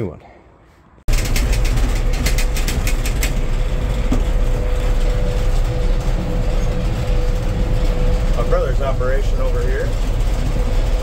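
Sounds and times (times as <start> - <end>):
combine engine drone and whine: 1.1 - 11.0
rapid clicking rattle: 1.1 - 11.0.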